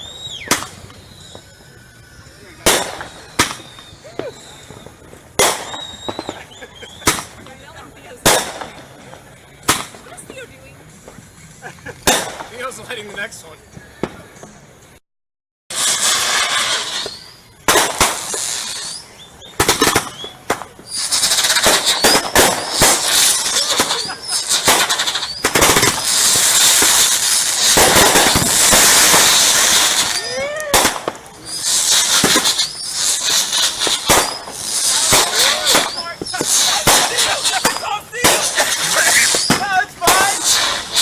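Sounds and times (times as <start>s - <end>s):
fireworks bangs: 0.0s - 15.0s, 15.7s - 41.0s
fireworks crackling and popping: 0.0s - 15.0s, 15.7s - 41.0s
whistling fireworks: 0.0s - 15.0s, 15.7s - 41.0s.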